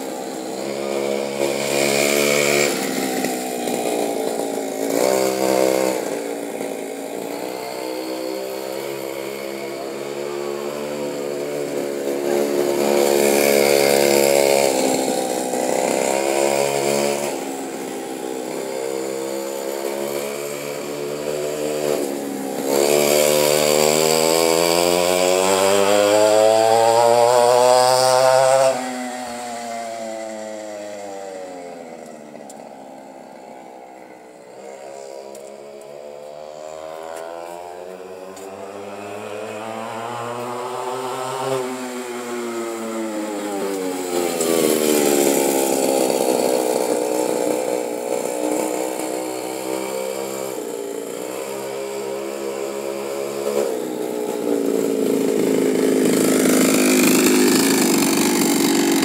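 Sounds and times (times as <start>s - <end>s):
two-stroke mini bike engine: 0.0s - 59.0s.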